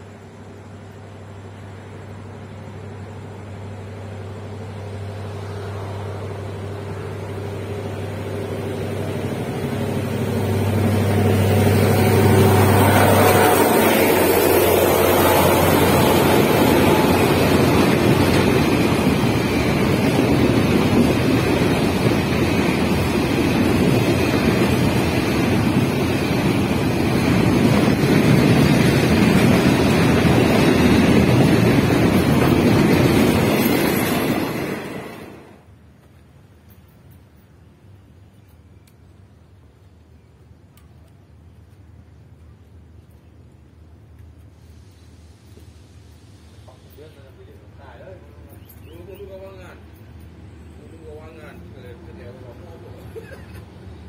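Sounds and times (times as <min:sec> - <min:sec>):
locomotive engine hum: 0:00.0 - 0:54.0
train wheels rolling on rails: 0:00.0 - 0:54.0.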